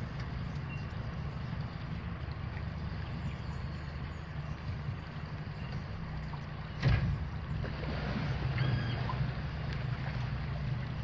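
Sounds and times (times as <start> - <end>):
outboard motor running slowly: 0.0 - 11.0.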